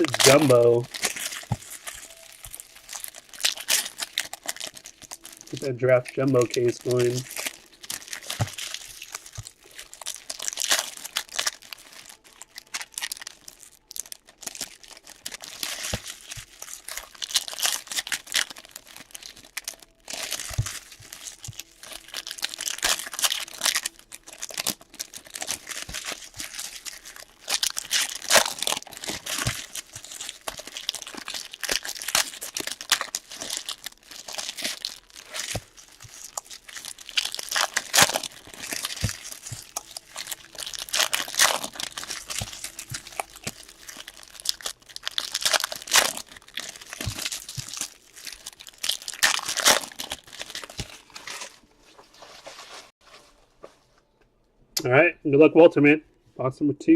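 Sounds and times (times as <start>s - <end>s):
foil wrappers crinkling and tearing: 0.0s - 52.9s.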